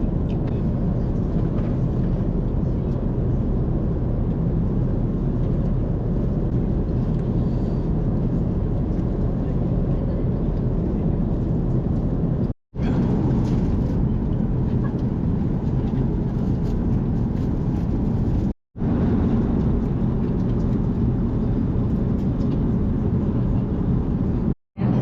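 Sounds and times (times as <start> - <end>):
airliner cabin noise: 0.0 - 25.0.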